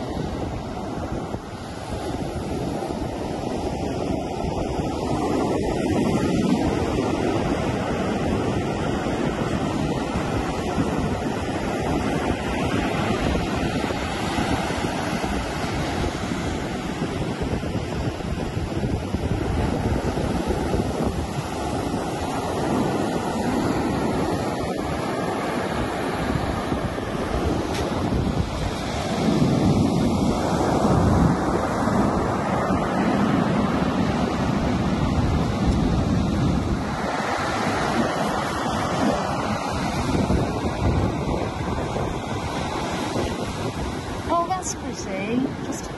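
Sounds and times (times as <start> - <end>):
surf washing up a beach: 0.0 - 45.9
wind buffeting the microphone: 0.0 - 45.9.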